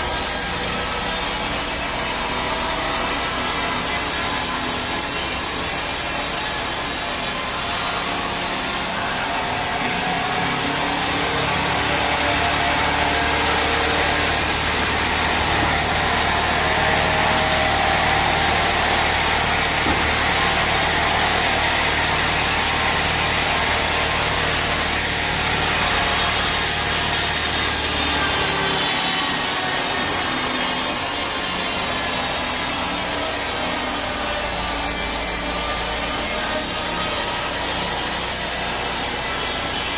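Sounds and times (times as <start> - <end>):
band saw rasping through wood: 0.0 - 39.9.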